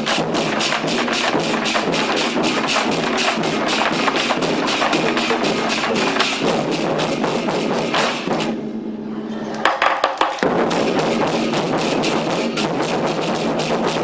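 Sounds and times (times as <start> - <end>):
big drum beats: 0.0 - 8.9, 9.6 - 14.0
cymbals clashing: 0.0 - 14.0.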